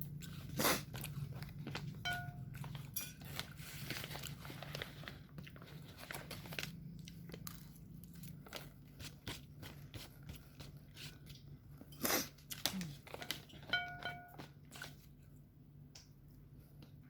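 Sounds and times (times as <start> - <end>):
person chewing crunchy food: 0.0 - 13.7.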